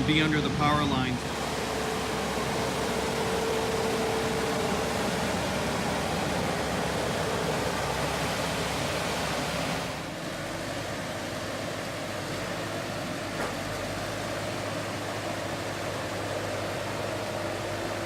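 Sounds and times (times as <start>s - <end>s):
engine rushing noise: 0.0s - 18.0s.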